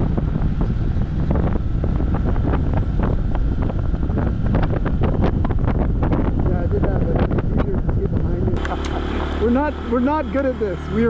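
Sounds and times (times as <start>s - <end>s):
motorcycle engine: 0.0s - 11.0s
wind buffeting microphone: 0.0s - 11.0s.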